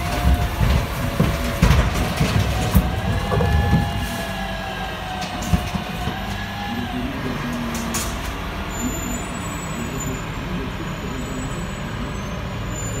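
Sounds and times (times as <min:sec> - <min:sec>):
garbage truck engine droning: 0:00.0 - 0:13.0.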